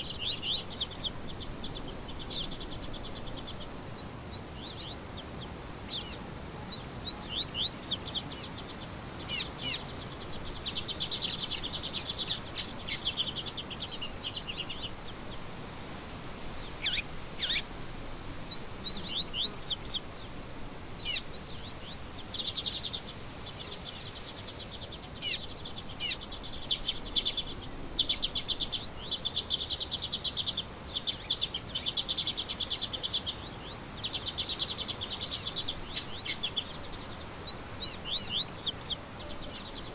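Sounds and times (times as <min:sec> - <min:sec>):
rapid bird trills: 0:00.0 - 0:15.5, 0:16.6 - 0:17.7, 0:18.5 - 0:20.3, 0:21.0 - 0:39.9
faint background hiss: 0:00.0 - 0:39.9
songbirds singing: 0:00.0 - 0:39.9.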